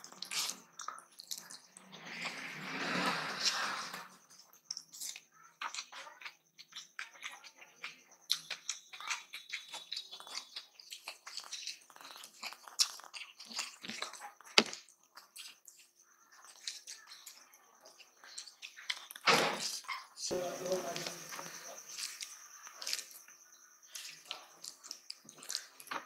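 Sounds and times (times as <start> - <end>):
wet chewing and mouth clicks: 0.0 - 1.9, 4.3 - 20.3, 20.9 - 26.0
fingers squelching rice: 4.7 - 26.0.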